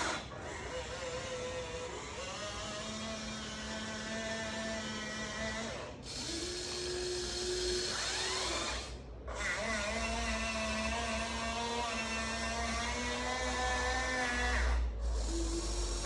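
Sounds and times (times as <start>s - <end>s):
electric gear motors whining: 0.0s - 16.0s.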